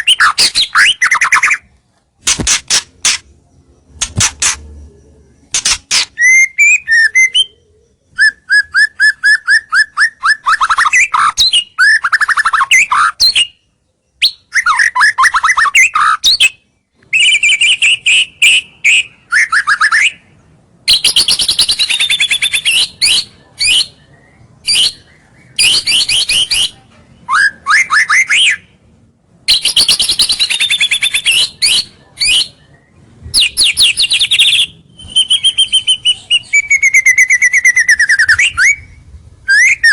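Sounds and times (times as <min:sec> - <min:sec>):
songbird singing varied phrases: 0:00.0 - 0:02.1, 0:03.0 - 0:39.9.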